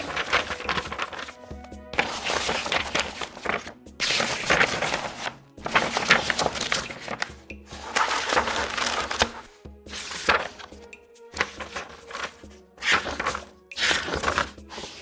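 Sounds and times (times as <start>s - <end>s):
book pages turning: 0.0s - 15.0s.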